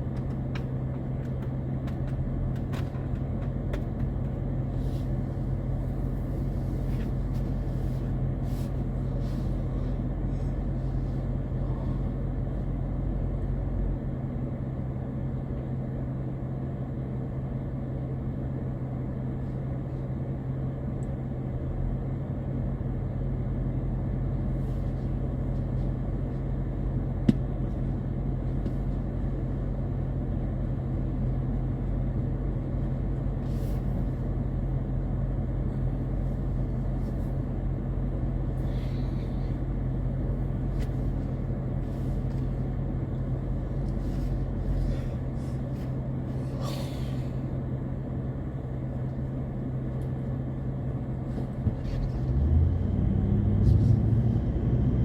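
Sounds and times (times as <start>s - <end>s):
car engine and road rumble: 0.0s - 55.0s
constant low hum: 0.0s - 55.0s.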